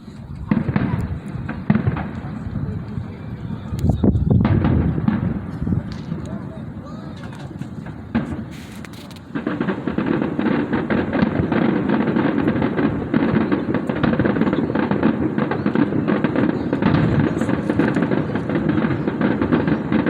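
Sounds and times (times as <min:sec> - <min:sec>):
fireworks popping and crackling: 0:00.0 - 0:20.0.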